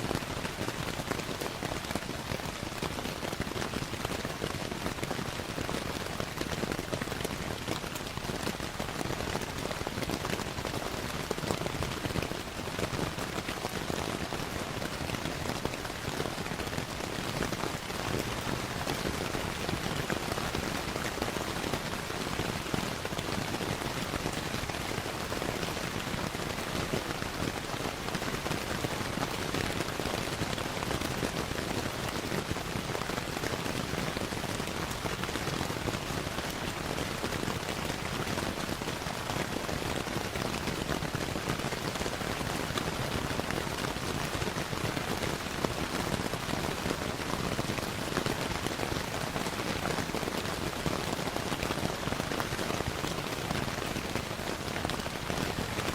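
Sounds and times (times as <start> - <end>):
rain patter: 0.0 - 55.9.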